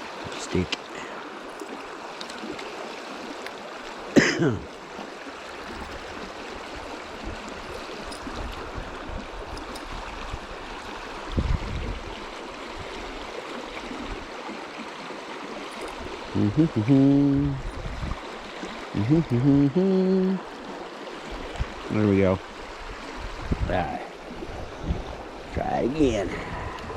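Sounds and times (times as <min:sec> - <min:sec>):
river water rushing over rocks: 0:00.0 - 0:26.3.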